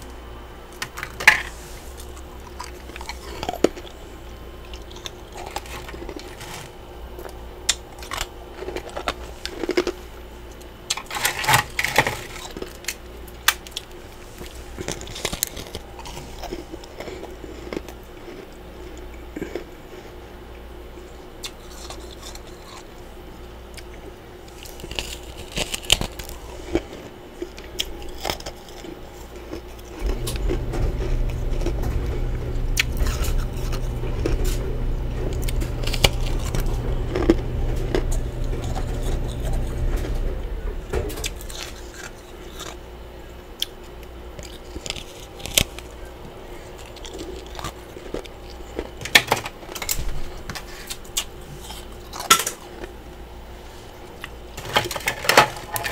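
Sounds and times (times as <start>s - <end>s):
low steady hum: 0.0s - 55.9s.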